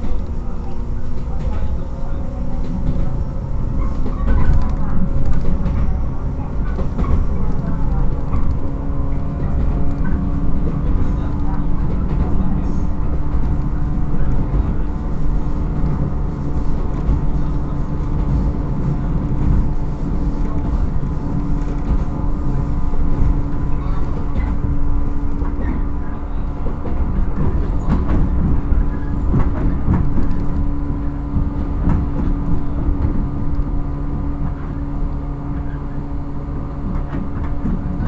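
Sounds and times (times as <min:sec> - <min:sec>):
train motor and gear hum: 0:00.0 - 0:38.0
wheel on rail rumble: 0:00.0 - 0:38.0.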